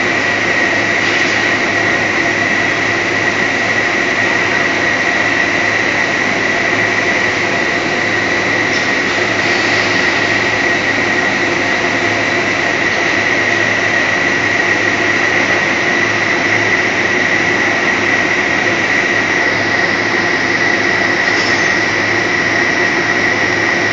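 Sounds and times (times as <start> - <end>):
machinery running: 0.0 - 23.9
rollers high whine: 0.0 - 23.9.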